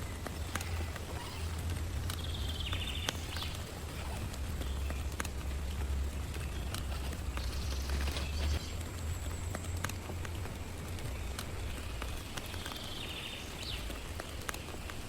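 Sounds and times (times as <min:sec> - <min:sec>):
heavy rain on a tent: 0:00.0 - 0:15.0
raindrops ticking on fabric: 0:00.0 - 0:15.0.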